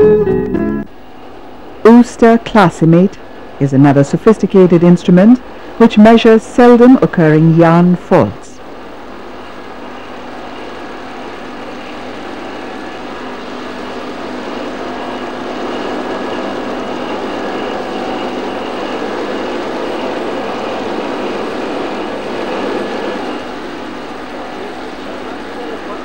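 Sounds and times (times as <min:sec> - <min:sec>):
machine whirring: 0:00.0 - 0:26.0.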